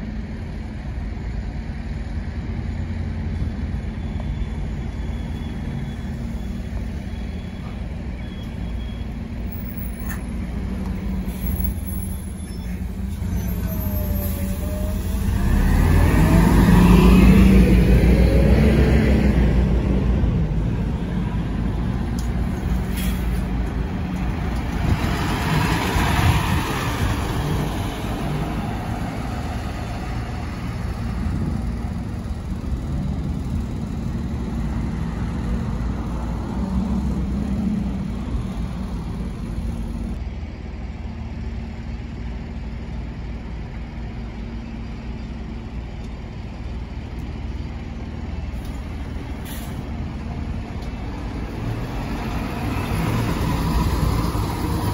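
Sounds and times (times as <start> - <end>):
buses driving with low drone: 0.0 - 54.9.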